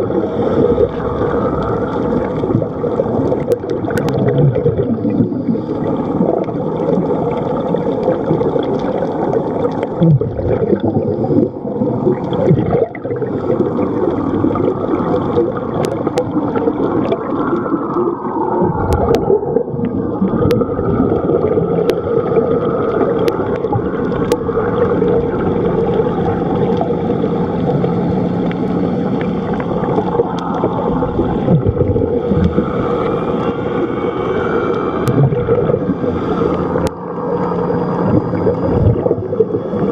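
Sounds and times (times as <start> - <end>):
diver breathing bubbles: 0.0 - 39.9
muffled underwater gurgling: 0.0 - 39.9.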